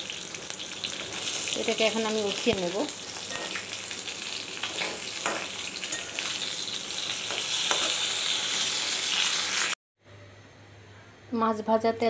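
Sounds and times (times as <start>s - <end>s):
fish sizzling in hot oil: 0.0s - 9.8s.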